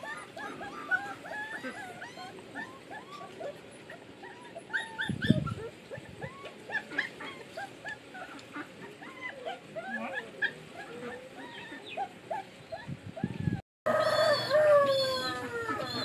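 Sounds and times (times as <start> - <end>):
dogs whimpering and yipping: 0.0 - 16.0.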